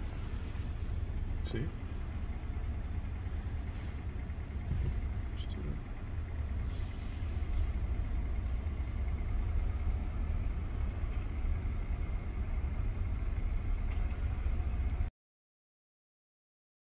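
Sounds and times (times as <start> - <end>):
low rumble: 0.0 - 15.1.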